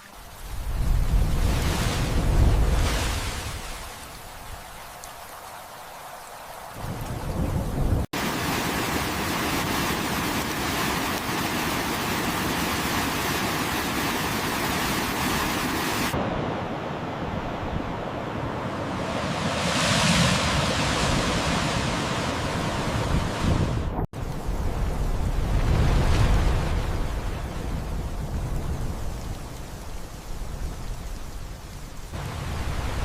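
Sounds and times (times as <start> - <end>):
rushing water: 0.0 - 16.9, 18.2 - 33.0.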